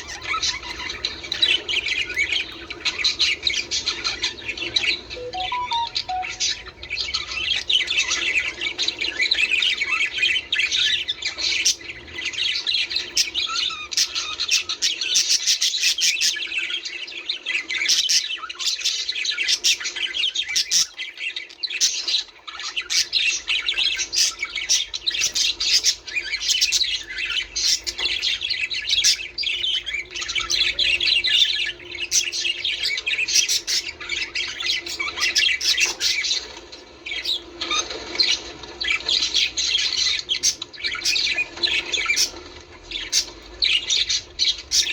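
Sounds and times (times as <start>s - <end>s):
budgerigars chattering and squawking: 0.0s - 6.5s, 7.1s - 44.9s.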